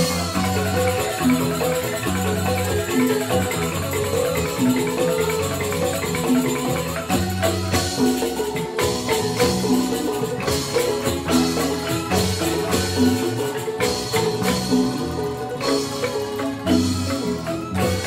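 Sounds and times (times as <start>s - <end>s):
bamboo xylophones playing: 0.0s - 18.0s
jingling percussion: 0.0s - 18.0s.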